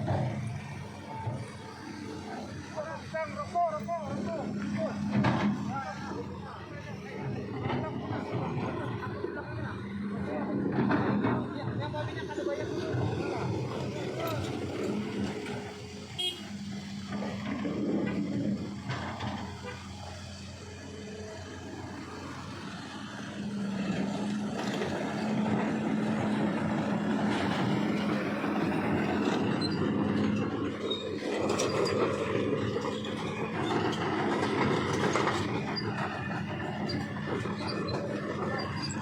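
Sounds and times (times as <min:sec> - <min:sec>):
vehicle engines humming: 0:00.0 - 0:39.0.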